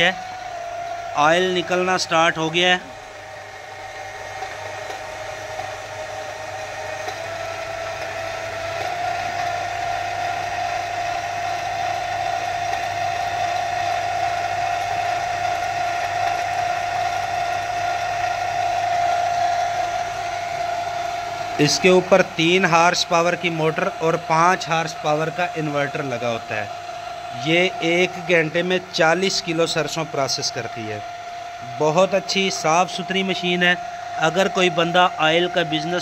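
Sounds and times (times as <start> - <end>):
oil press machine whining: 0.0 - 36.0.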